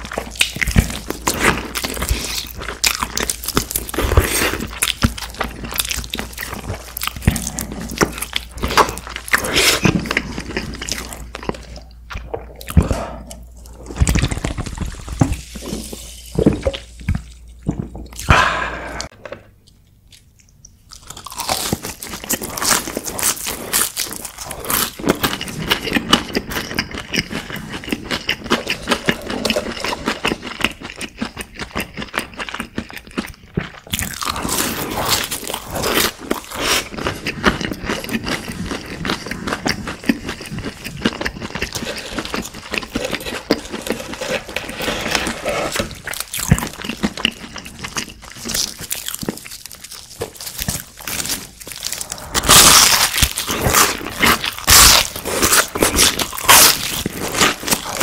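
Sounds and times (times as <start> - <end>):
crispy food crunching: 0.0 - 18.3, 19.1 - 58.0.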